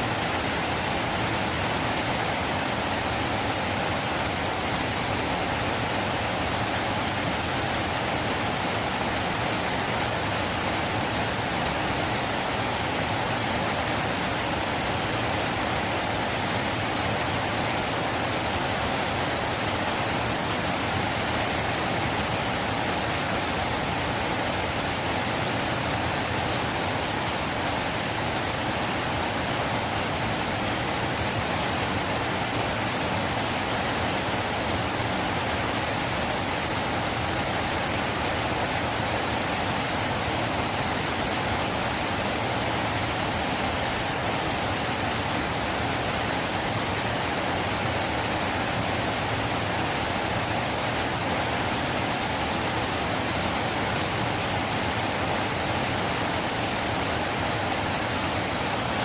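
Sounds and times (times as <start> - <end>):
river water flowing fast: 0.0 - 59.0.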